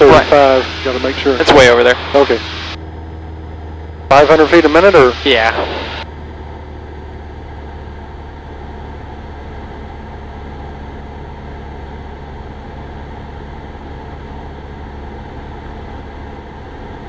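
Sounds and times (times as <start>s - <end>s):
airplane engine droning in cabin: 0.0s - 17.0s.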